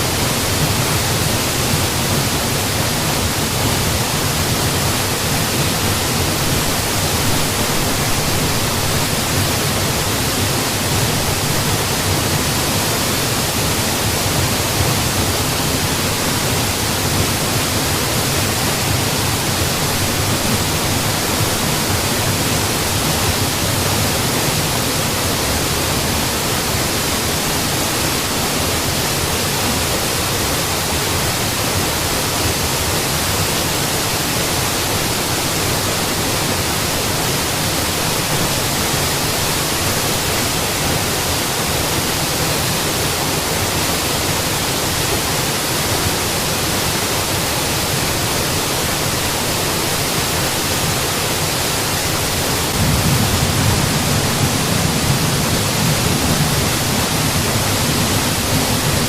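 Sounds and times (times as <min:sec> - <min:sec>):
waterfall splashing: 0:00.0 - 0:59.0.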